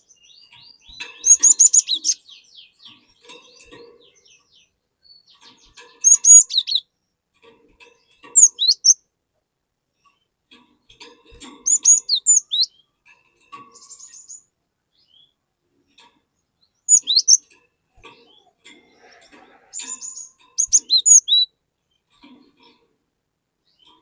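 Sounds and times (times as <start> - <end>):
bird chirping: 0.0 - 9.0, 11.0 - 22.8, 23.6 - 24.0.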